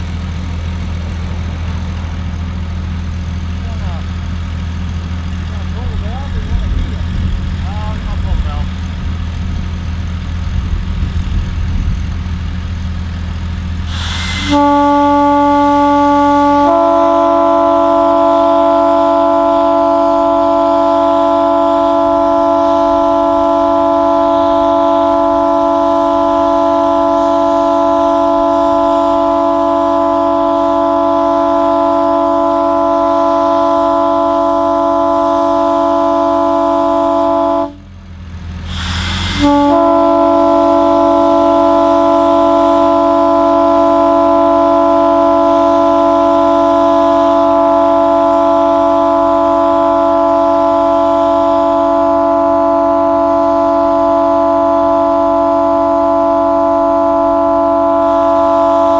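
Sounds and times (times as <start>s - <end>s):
locomotive air horn chord: 0.0s - 58.9s.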